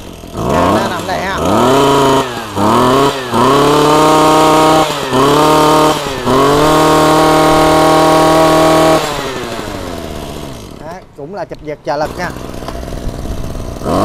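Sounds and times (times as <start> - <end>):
brush cutter engine revving: 0.0 - 14.0.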